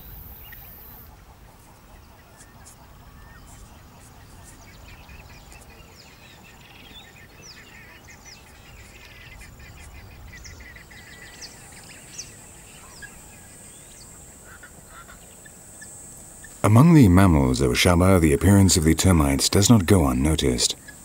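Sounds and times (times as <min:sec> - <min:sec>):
birds chirping: 0:00.0 - 0:21.0
faint background hiss: 0:00.0 - 0:21.0.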